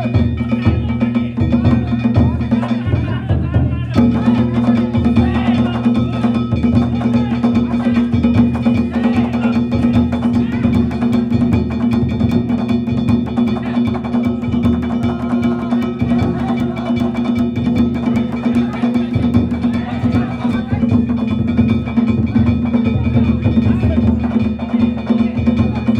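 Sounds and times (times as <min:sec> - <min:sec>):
taiko drums in fast rhythm: 0:00.0 - 0:25.9.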